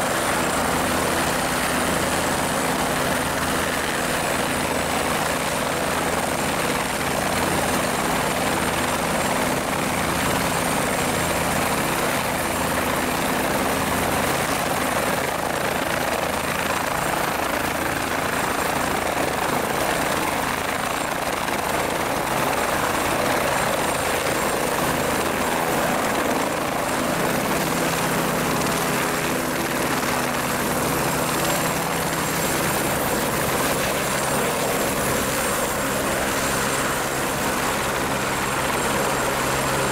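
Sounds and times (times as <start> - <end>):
helicopter rotor and turbine engine: 0.0 - 39.9.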